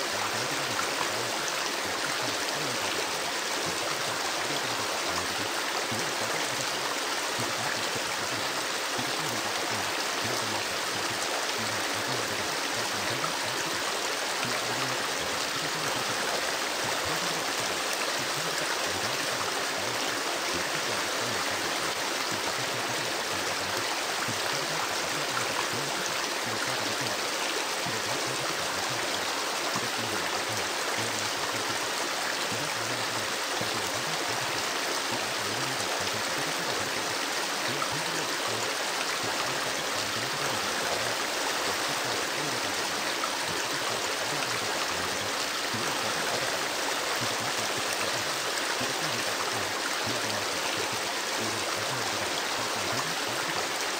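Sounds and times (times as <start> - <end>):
stream water flowing: 0.0 - 53.9.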